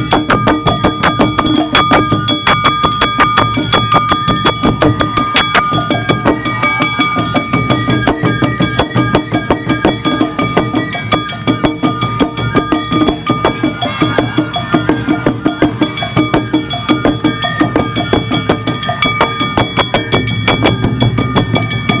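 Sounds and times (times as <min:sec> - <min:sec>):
festival drums: 0:00.0 - 0:22.0
held high melody notes: 0:00.0 - 0:22.0
sharp metallic strikes: 0:00.0 - 0:22.0.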